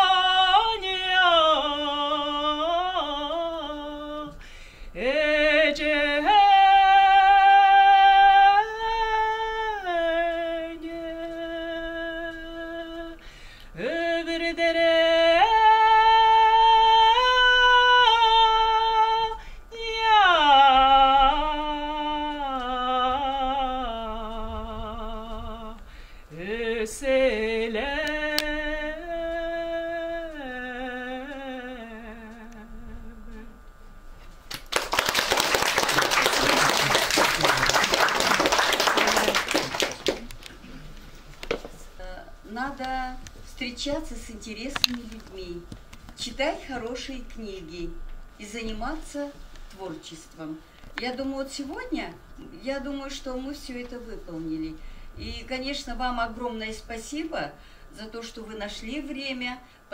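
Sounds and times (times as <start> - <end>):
woman singing unaccompanied: 0.0 - 33.7, 41.8 - 59.9.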